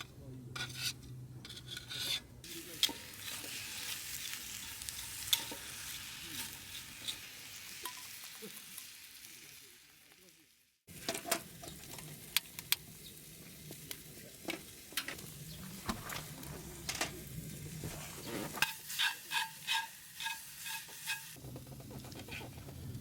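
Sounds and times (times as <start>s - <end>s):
food sizzling in a frying pan: 2.4s - 21.5s.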